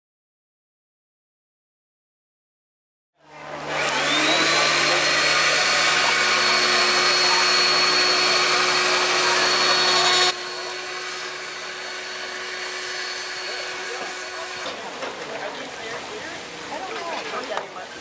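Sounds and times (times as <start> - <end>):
motor whining: 3.2 - 17.7.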